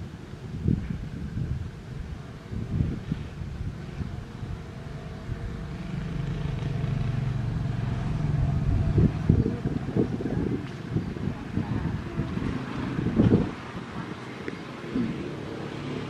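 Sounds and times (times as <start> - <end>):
diesel locomotive engine droning: 0.0 - 16.0
wind buffeting microphone: 0.0 - 16.0.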